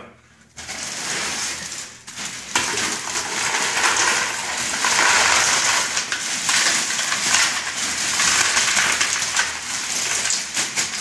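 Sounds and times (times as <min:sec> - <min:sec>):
ice and water tumbling into bucket: 0:00.6 - 0:11.0
plastic bag crinkling: 0:00.6 - 0:11.0.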